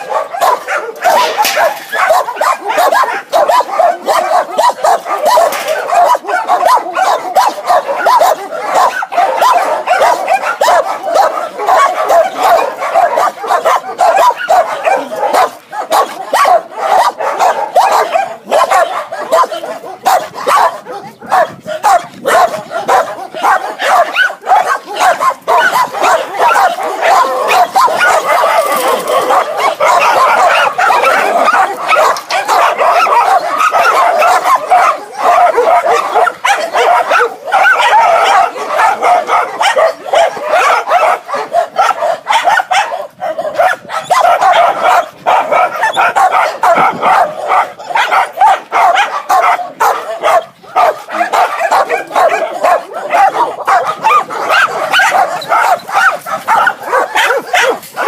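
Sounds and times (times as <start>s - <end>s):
many dogs barking: 0.0s - 58.0s.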